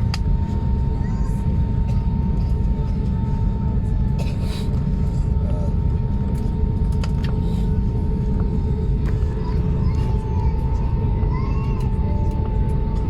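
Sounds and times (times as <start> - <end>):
jet engine cabin rumble: 0.0 - 13.0
steady whine: 0.0 - 13.0.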